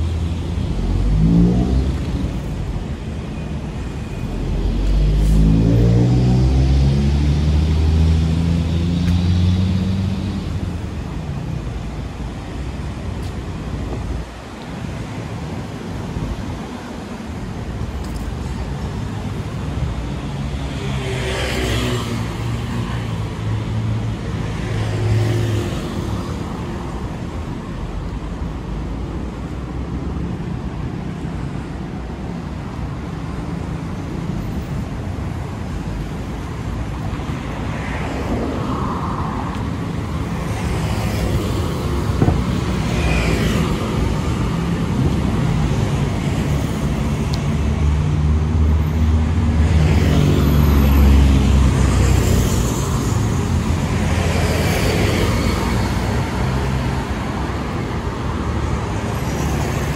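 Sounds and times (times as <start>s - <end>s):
rumble of engines and tyres: 0.0s - 59.9s
vehicles passing close by: 0.0s - 59.9s.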